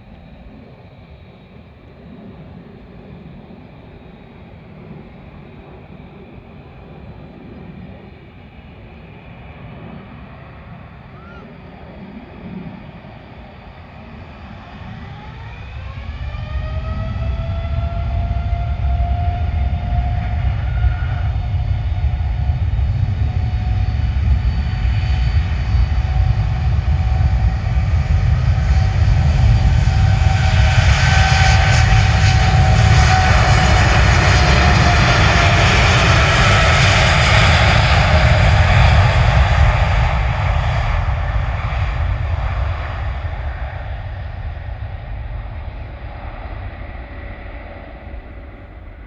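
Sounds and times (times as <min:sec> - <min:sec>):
deep rushing jet noise: 0:00.0 - 0:49.0
jet engine whine: 0:00.0 - 0:49.0.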